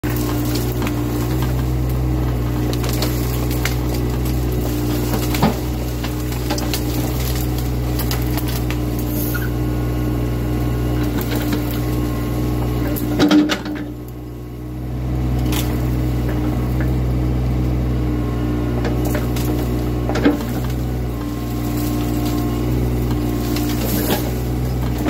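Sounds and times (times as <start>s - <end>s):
branches cracking and snapping: 0.0s - 9.6s, 10.4s - 14.3s, 15.3s - 17.2s, 18.7s - 25.0s
diesel engine running: 0.0s - 25.0s.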